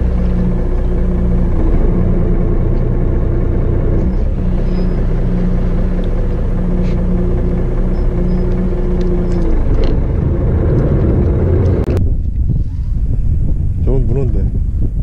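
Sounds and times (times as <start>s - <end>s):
propeller churning water: 0.0s - 12.1s
boat engine humming: 0.0s - 13.2s.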